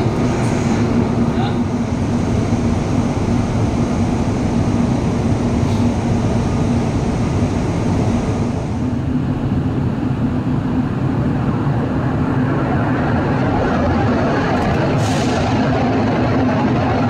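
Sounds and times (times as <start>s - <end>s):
train approaching through tunnel: 0.0s - 17.0s
train running in tunnel: 0.0s - 17.0s.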